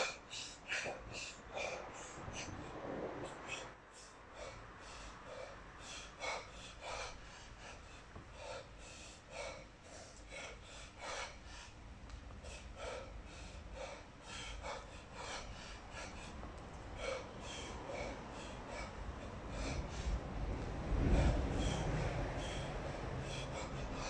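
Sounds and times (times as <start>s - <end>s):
man breathing forcefully: 0.0s - 24.0s.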